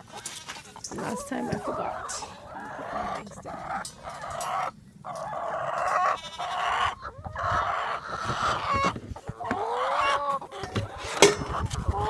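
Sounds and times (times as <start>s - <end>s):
hens clucking and squawking: 0.0s - 12.0s.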